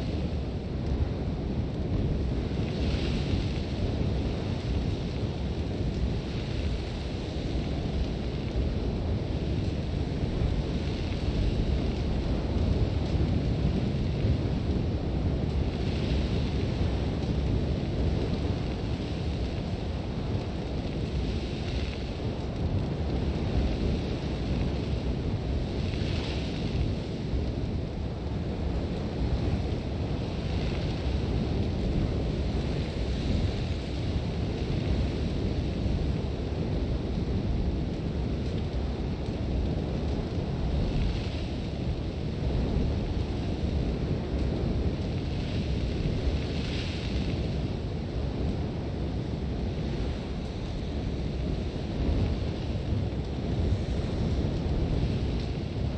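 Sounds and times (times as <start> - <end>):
deep wind rumble: 0.0 - 55.9.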